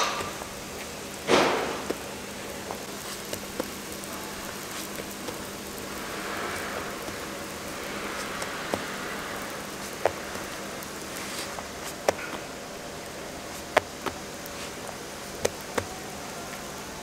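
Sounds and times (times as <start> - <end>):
dough sizzling on a griddle: 0.0 - 17.0.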